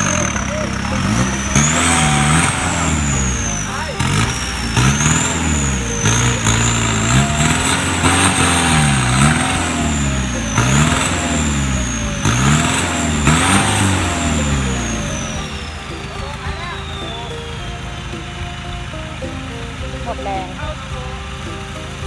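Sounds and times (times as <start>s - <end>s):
engine revving with high whine: 0.0s - 22.0s.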